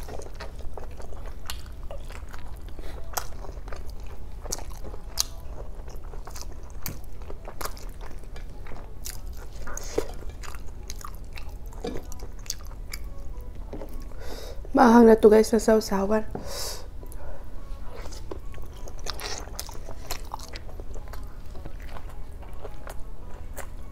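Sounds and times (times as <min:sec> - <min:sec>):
close chewing with mouth clicks: 0:00.0 - 0:14.2, 0:17.9 - 0:23.9
low steady hum: 0:00.0 - 0:23.9.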